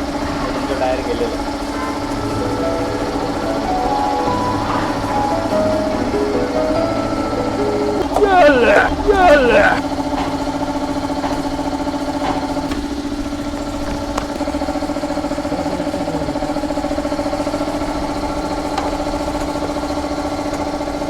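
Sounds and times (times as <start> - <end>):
motorcycle engine idling: 1.3 - 21.0.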